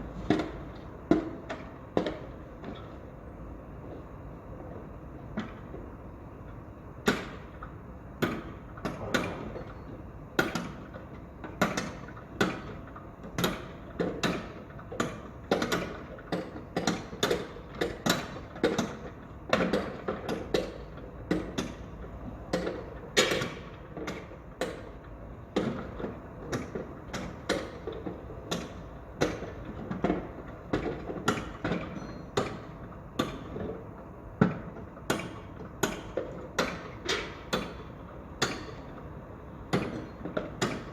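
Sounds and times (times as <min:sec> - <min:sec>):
construction knocks and bangs: 0:00.1 - 0:04.1, 0:07.0 - 0:39.1, 0:39.7 - 0:40.9.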